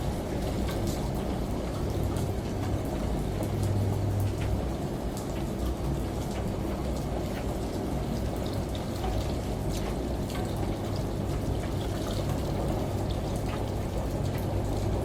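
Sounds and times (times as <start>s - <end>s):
washing machine humming: 0.0s - 15.0s
running spattering water: 0.2s - 15.0s.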